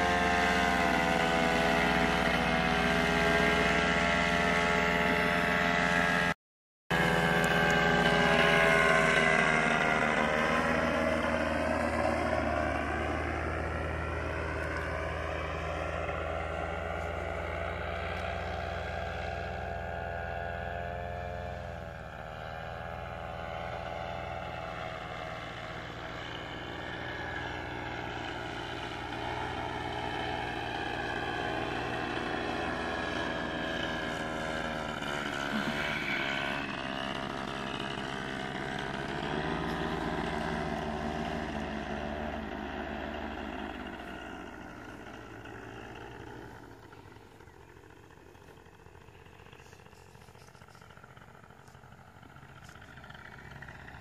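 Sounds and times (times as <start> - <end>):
microlight engine and propeller droning: 0.0 - 54.0.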